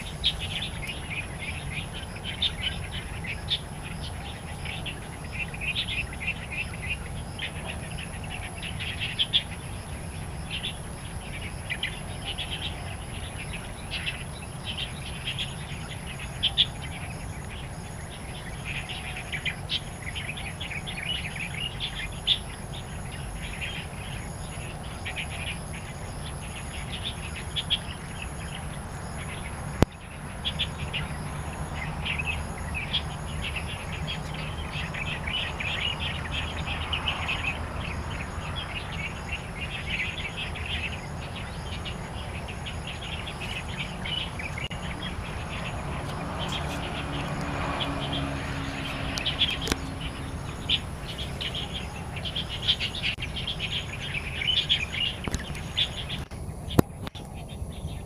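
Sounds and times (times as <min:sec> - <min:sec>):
faint insect chirp: 0:00.0 - 0:58.0
high insect whine: 0:00.0 - 0:58.0
songbirds chirping and chattering: 0:00.0 - 0:58.0.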